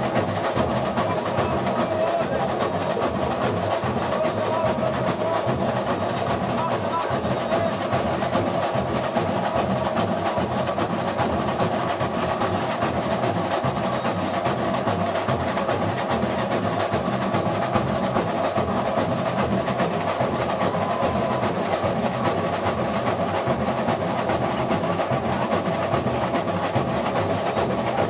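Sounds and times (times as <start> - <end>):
bass drums: 0.0 - 28.0
samba drums: 0.0 - 28.0.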